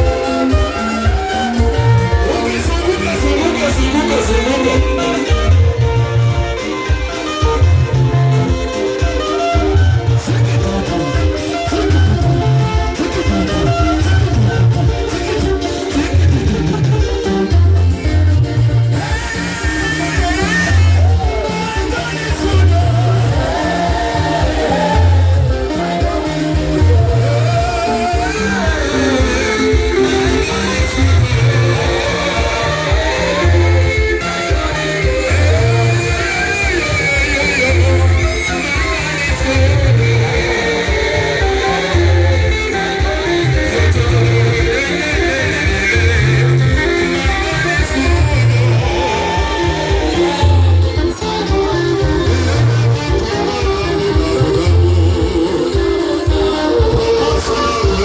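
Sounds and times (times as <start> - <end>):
steady bass line: 0.0 - 58.0
voices singing: 0.0 - 58.0
worship band playing: 0.0 - 58.0.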